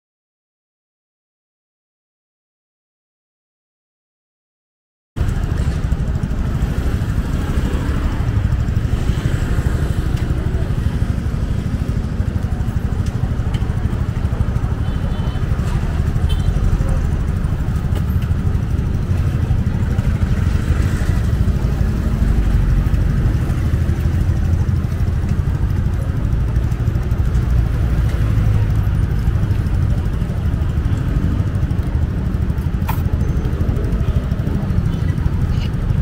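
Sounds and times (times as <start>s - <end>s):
faint chatter: 5.2s - 36.0s
vehicle engines rumbling: 5.2s - 36.0s.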